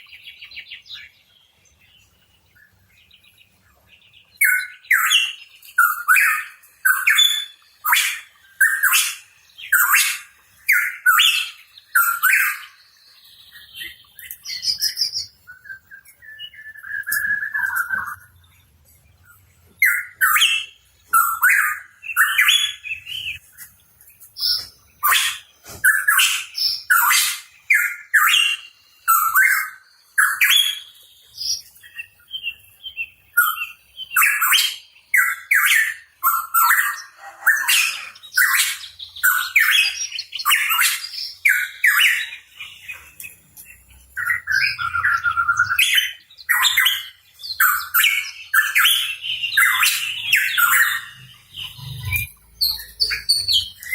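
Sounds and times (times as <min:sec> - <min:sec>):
bird whistling and chattering: 0:04.4 - 0:12.8, 0:13.8 - 0:18.4, 0:19.8 - 0:23.4, 0:24.4 - 0:32.6, 0:33.4 - 0:43.0, 0:44.2 - 0:53.9.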